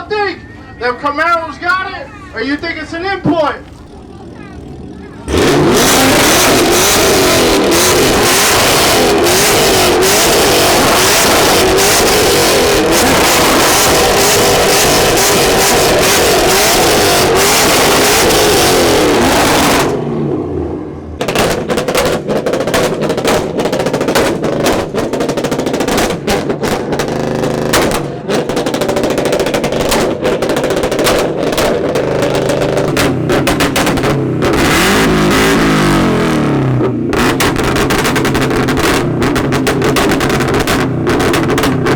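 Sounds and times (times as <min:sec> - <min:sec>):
car engines revving loudly: 0:00.0 - 0:41.9
engine choppy stuttering: 0:00.0 - 0:41.9.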